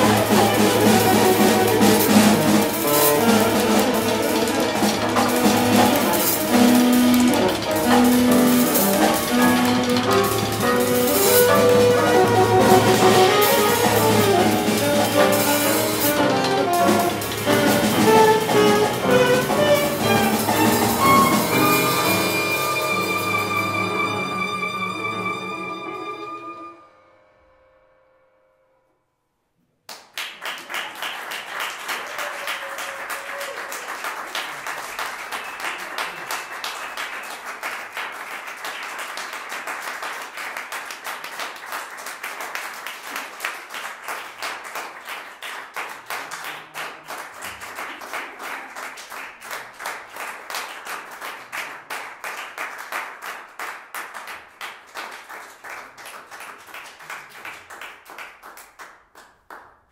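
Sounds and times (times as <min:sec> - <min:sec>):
audience applauding: 0:00.0 - 0:25.8, 0:29.9 - 0:59.8.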